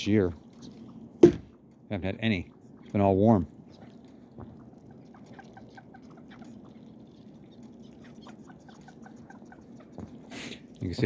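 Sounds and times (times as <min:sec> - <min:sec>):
ducks calling softly: 0:00.0 - 0:11.0.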